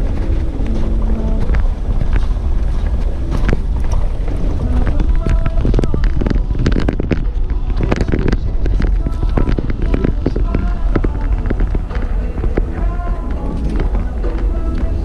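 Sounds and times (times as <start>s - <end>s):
vehicle rumbling on rough road: 0.0s - 15.0s.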